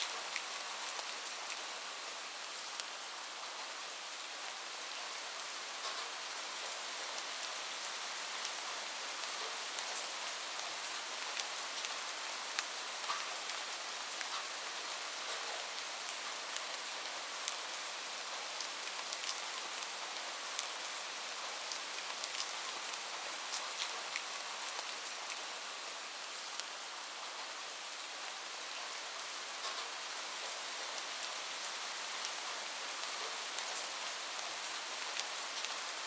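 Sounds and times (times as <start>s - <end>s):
rain falling on a roof: 0.0s - 36.0s.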